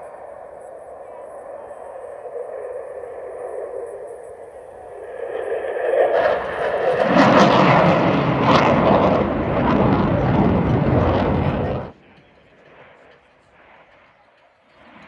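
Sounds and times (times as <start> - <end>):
jet roaring with ragged crackle: 0.0 - 15.0.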